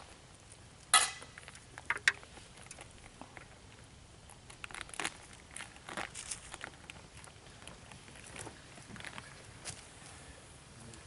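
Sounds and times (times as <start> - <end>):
leaves rustling: 0.0 - 11.0
leaves and soil crunching: 1.2 - 11.0.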